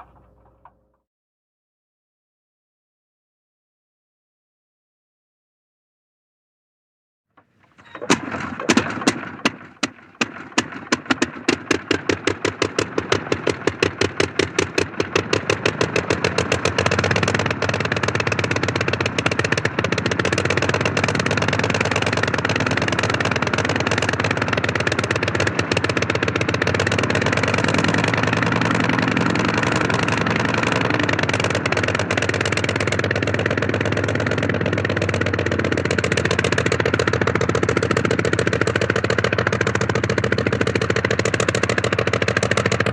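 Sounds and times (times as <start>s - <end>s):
propeller engine firing: 0.0s - 0.8s, 7.6s - 42.9s.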